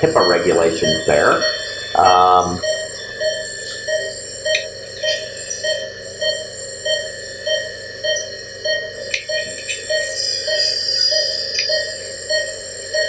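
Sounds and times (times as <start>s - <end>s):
monitor beeping: 0.0s - 13.0s
steady high whine: 0.0s - 13.0s.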